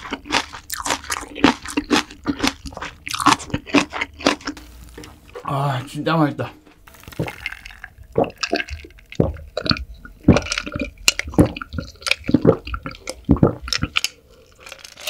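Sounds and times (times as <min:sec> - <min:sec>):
wet eating sounds: 0:00.0 - 0:05.5, 0:07.2 - 0:15.0.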